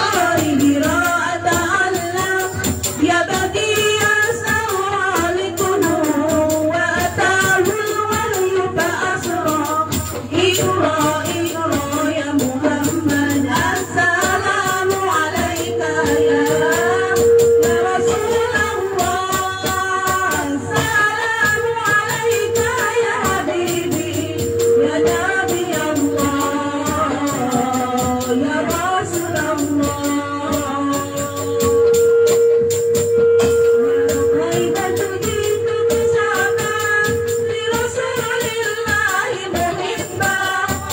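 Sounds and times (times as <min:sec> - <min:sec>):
fast frame drum playing: 0:00.0 - 0:31.7, 0:32.7 - 0:40.9
women singing in unison: 0:00.0 - 0:40.9.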